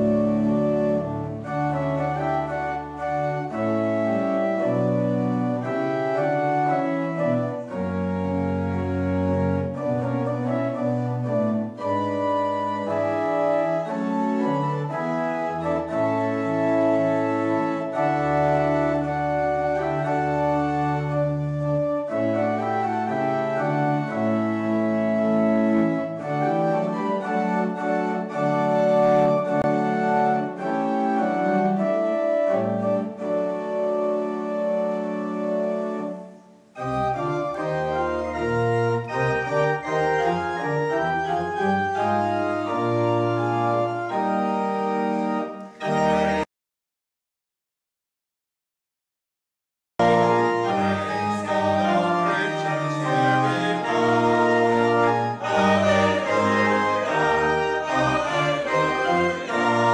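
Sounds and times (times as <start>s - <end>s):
church organ chords: 0.0s - 46.5s, 50.0s - 59.9s.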